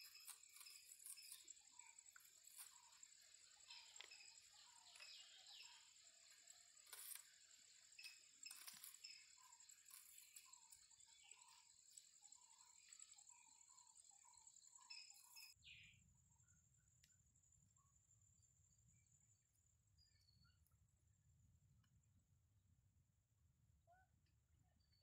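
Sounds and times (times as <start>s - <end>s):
crickets droning: 0.0s - 20.4s.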